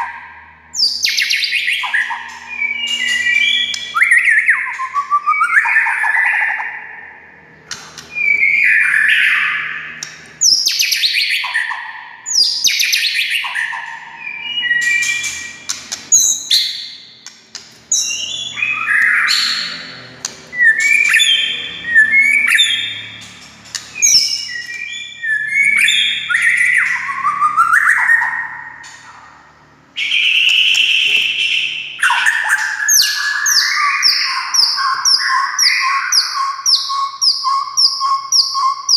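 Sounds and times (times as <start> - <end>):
bird singing whistled phrases: 0.8 - 6.9, 8.1 - 17.0, 17.9 - 19.8, 20.5 - 23.2, 23.8 - 29.0, 30.0 - 38.9.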